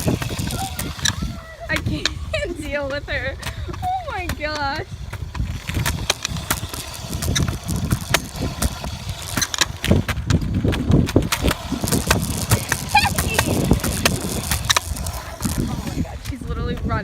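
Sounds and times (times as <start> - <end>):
low wind rumble: 0.0 - 17.0
phone microphone handling noise: 0.0 - 17.0.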